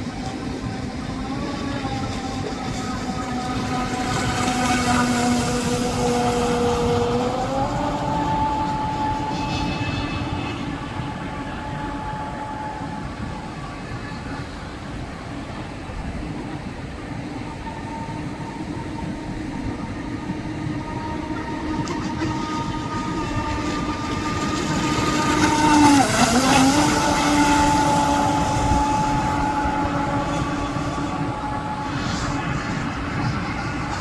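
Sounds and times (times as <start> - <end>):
model boat motor whine: 0.0 - 34.0.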